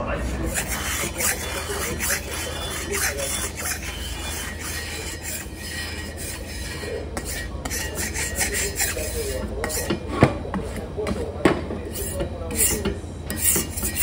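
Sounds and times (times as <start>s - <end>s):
griddle being scraped: 0.2s - 10.9s, 11.8s - 14.0s.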